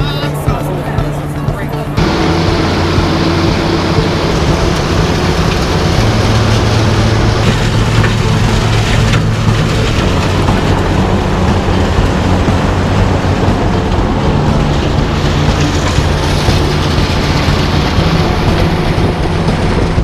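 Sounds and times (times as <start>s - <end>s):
diesel engine drone: 0.0s - 20.0s
milling drum grinding asphalt: 0.0s - 20.0s.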